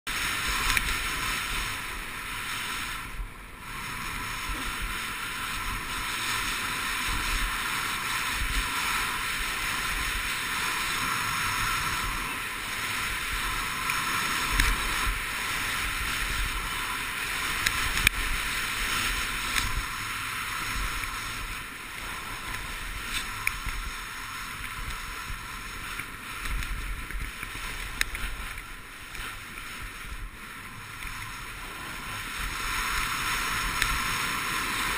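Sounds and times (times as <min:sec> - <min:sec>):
skis sliding on snow: 0:00.1 - 0:34.9
wind rushing over microphone: 0:00.1 - 0:34.9.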